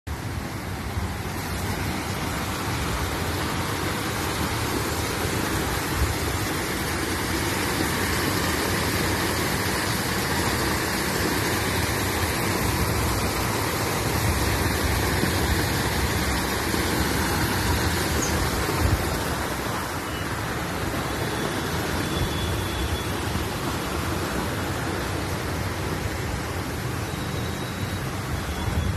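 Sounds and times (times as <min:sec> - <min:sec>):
fountain jets splashing into water: 0:00.1 - 0:28.9.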